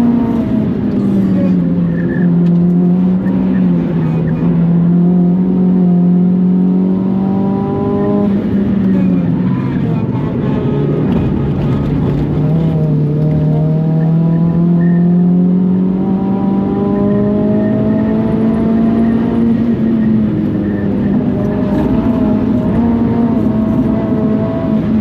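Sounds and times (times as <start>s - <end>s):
car engine revving under load: 0.0s - 25.0s.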